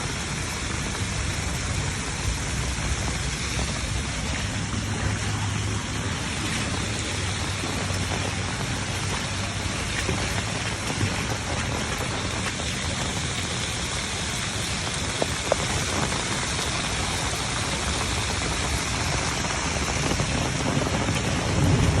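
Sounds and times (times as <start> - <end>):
heavy rain splashing: 0.0 - 22.0.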